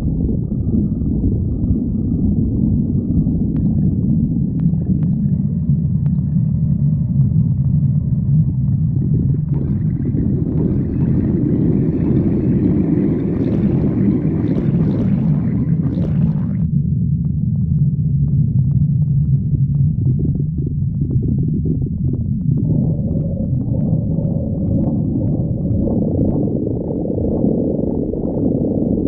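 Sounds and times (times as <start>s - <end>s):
stomach growling: 0.0s - 29.0s.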